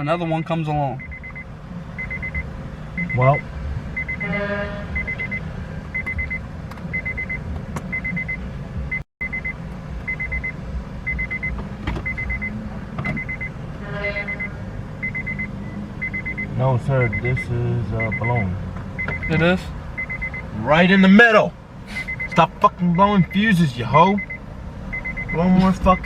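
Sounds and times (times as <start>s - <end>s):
car warning chime dinging: 0.0s - 26.0s.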